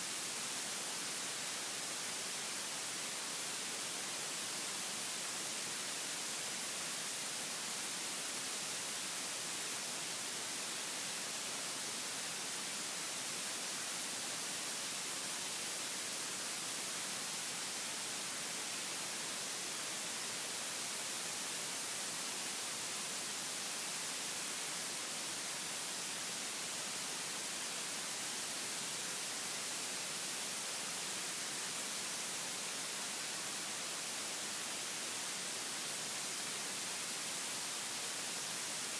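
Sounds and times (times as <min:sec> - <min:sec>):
steady recording hiss: 0:00.0 - 0:38.9.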